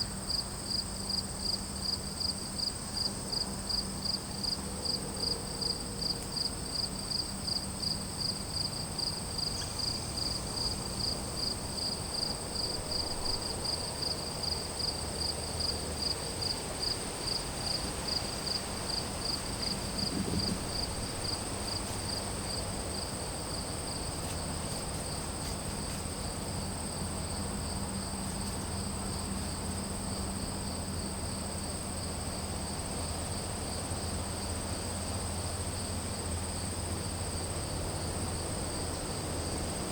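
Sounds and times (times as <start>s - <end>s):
cricket chirping in steady pulse: 0.0s - 39.9s.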